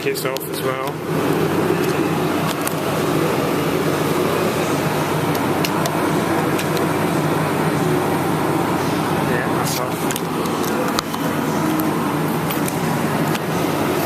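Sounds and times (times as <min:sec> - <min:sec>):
refrigeration plant humming: 0:00.0 - 0:14.0.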